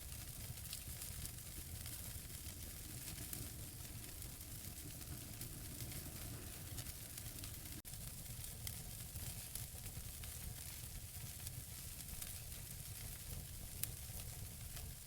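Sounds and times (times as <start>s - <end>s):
burning logs crackling: 0.0s - 14.9s
flames rumbling: 0.0s - 14.9s.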